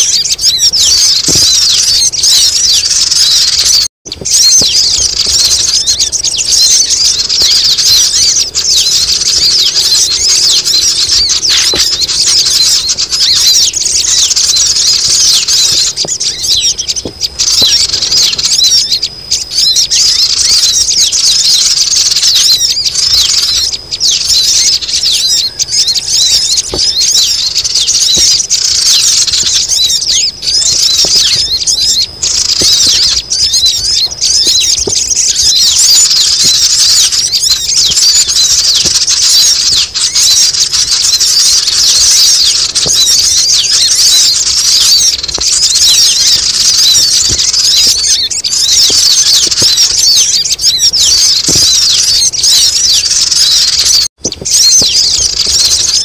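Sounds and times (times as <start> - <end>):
high-pitched bird chirps: 0.0 - 56.0.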